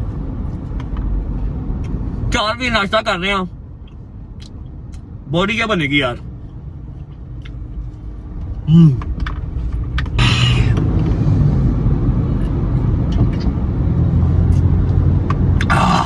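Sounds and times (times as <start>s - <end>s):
moving car rumble: 0.0s - 16.0s.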